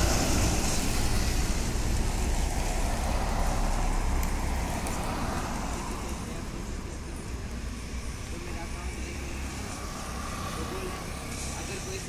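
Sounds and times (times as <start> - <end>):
bus passing: 0.0 - 12.0.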